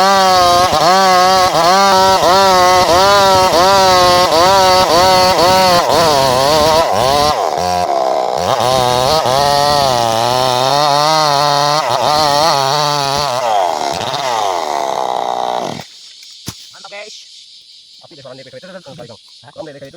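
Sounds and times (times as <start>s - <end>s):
chainsaw cutting wood: 0.0s - 16.3s.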